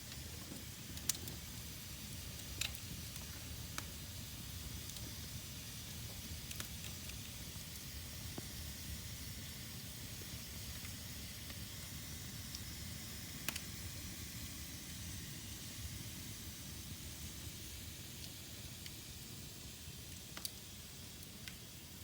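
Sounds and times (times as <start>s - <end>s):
fire crackles: 0.0s - 22.0s
fire hissing and rumbling: 0.0s - 22.0s.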